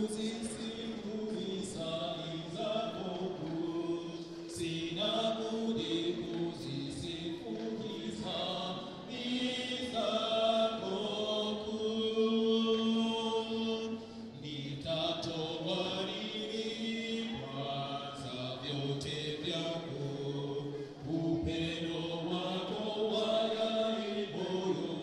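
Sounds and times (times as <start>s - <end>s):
group singing a slow hymn: 0.0s - 25.0s.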